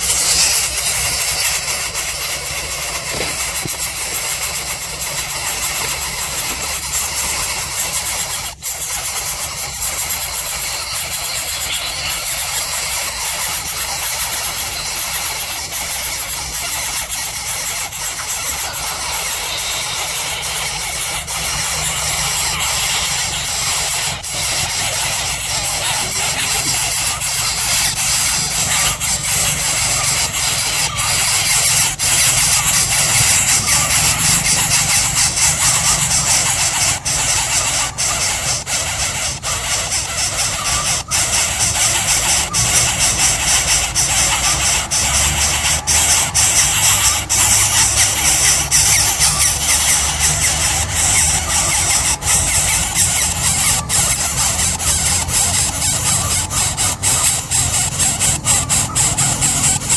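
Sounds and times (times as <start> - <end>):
bird chick squealing: 0.0 - 59.9.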